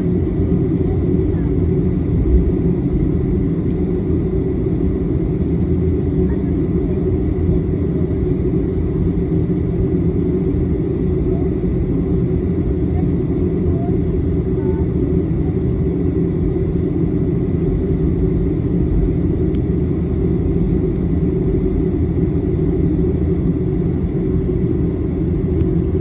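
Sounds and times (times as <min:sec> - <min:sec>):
jet airliner taxiing rumble: 0:00.0 - 0:26.0.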